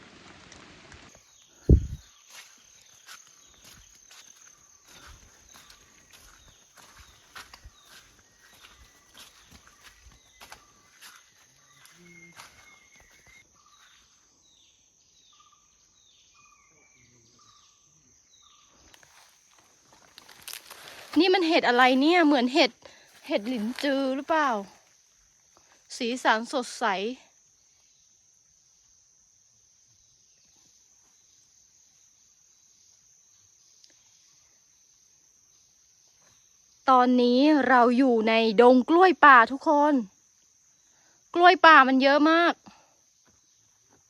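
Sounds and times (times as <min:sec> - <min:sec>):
high insect drone: 0:01.1 - 0:44.0.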